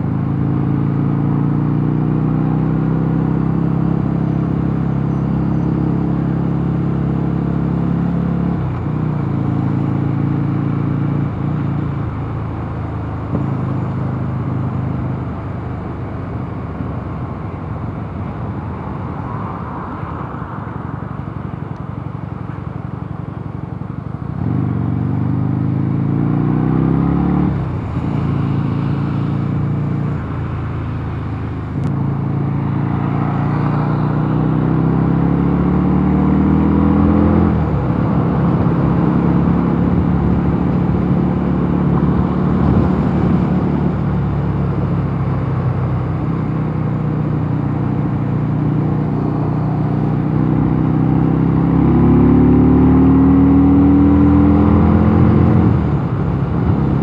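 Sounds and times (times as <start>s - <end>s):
motorcycle engine accelerating: 0.0s - 20.0s, 23.8s - 57.0s.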